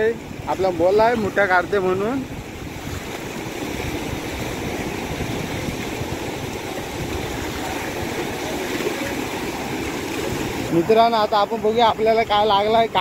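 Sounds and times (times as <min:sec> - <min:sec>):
waves breaking on rocks: 0:00.0 - 0:13.0.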